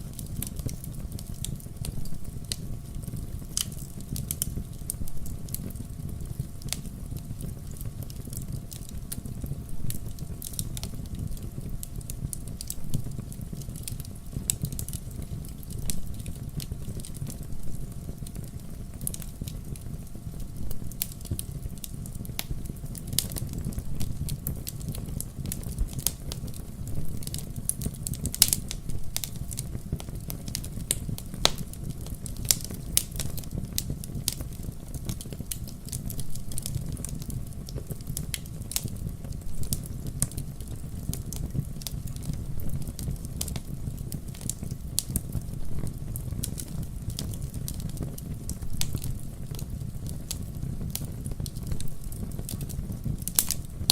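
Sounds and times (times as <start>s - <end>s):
fire crackling and popping: 0.0s - 53.9s
fire flames rumbling: 0.0s - 53.9s.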